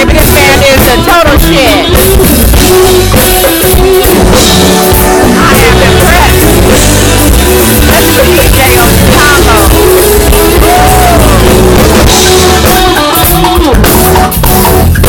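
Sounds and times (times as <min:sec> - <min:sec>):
drum kit beat: 0:00.0 - 0:15.0
live band playing loudly: 0:00.0 - 0:15.0.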